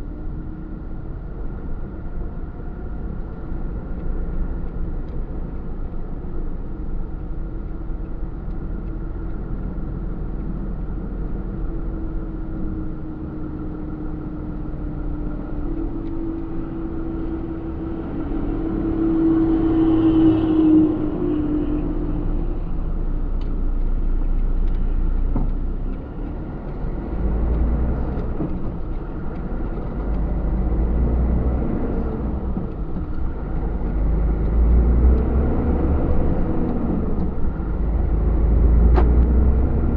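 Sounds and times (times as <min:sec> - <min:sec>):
road noise: 0:00.0 - 0:39.9
truck engine rumble: 0:05.2 - 0:39.9.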